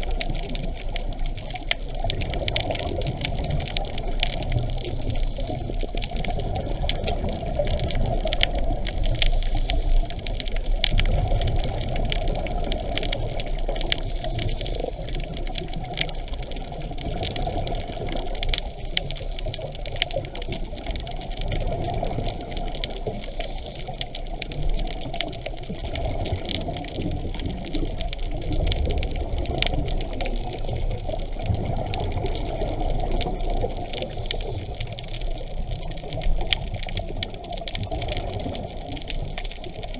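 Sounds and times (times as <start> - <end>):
crackle of small clicks: 0.0 - 39.9
underwater regulator bubbles gurgling: 0.0 - 39.9.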